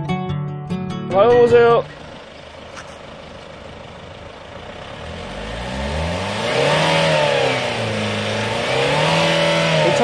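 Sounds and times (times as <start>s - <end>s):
diesel engine revving: 1.4s - 10.0s.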